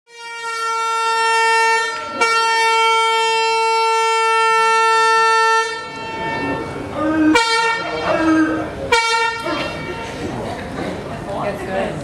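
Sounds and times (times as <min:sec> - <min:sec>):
horn blasts: 0:00.1 - 0:10.5.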